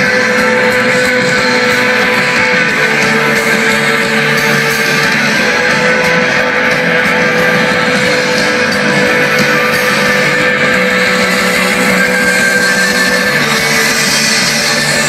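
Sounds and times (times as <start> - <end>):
electric guitars: 0.0 - 15.0
live rock band playing: 0.0 - 15.0.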